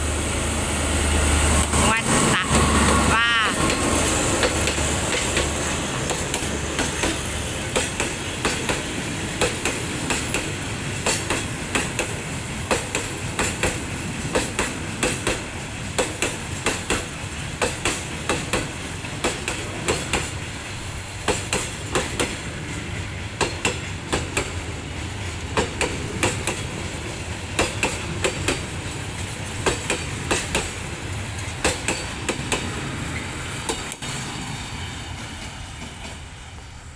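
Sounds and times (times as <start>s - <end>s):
diesel locomotive rumbling: 0.0s - 36.9s
train wheels clicking over rail joints: 2.6s - 34.3s.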